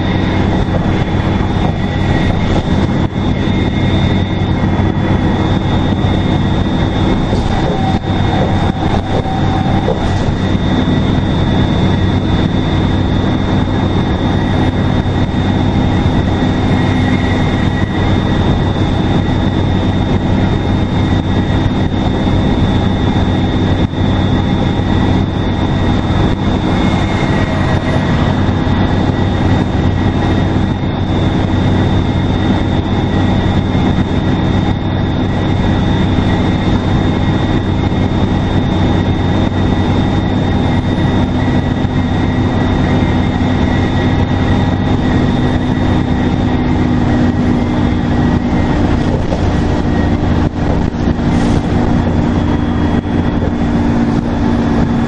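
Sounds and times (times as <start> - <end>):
bus diesel engine droning: 0.0 - 55.0
turbocharger whistle: 0.0 - 55.0.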